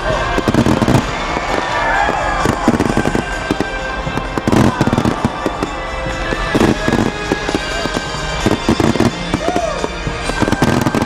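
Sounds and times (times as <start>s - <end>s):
fireworks bangs and crackles: 0.0s - 11.0s
fireworks whistling: 0.0s - 11.0s
music: 0.0s - 11.0s.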